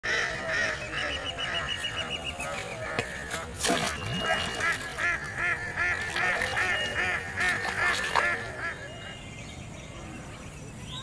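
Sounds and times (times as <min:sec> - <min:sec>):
waterfowl honking: 0:00.1 - 0:09.1.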